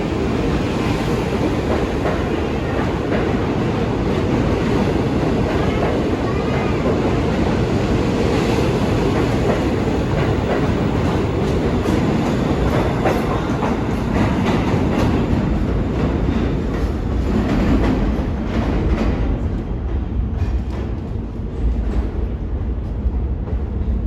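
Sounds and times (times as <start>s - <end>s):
subway train rumbling: 0.0s - 24.0s.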